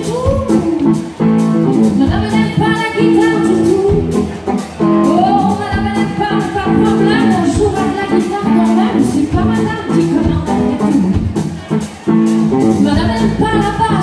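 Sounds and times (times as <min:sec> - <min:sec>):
woman singing: 0:00.0 - 0:01.2, 0:01.8 - 0:04.3, 0:05.0 - 0:11.3, 0:12.6 - 0:14.0
country band playing: 0:00.0 - 0:14.0.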